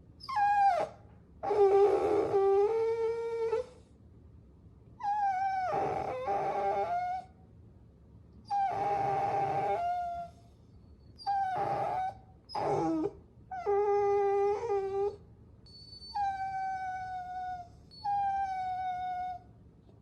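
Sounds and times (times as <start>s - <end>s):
puppy whining: 0.2s - 3.8s, 5.0s - 7.4s, 8.4s - 19.5s.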